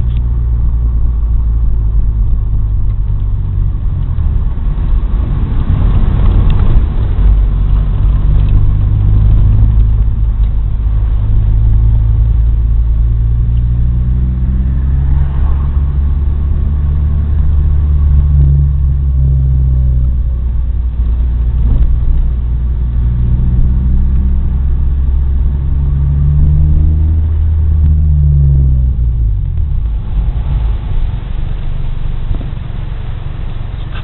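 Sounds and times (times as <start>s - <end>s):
car engine droning: 0.0s - 34.0s
road noise rumble: 0.0s - 34.0s.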